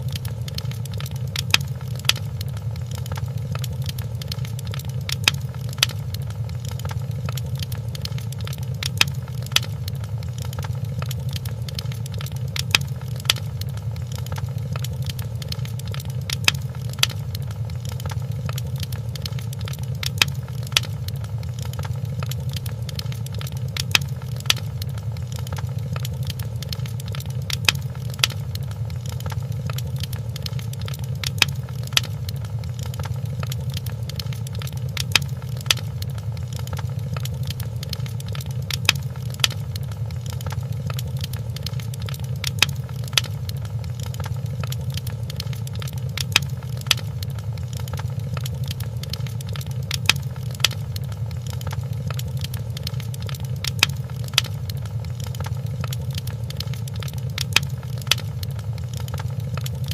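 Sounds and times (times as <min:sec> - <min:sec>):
sharp pops of fire: 0:00.0 - 0:59.9
wood fire crackling: 0:00.0 - 0:59.9.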